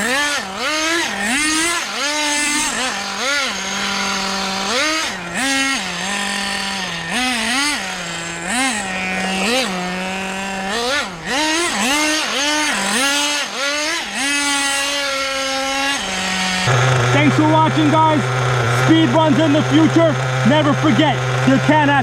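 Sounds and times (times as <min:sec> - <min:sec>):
small rc car engine revving: 0:00.0 - 0:22.0.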